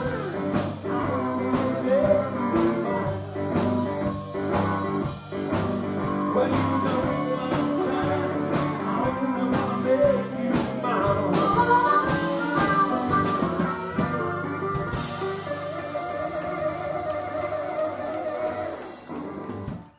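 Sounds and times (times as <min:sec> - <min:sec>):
drum kit beat: 0:00.0 - 0:19.9
electric guitar: 0:00.0 - 0:19.9
guitar lead line: 0:00.0 - 0:19.9.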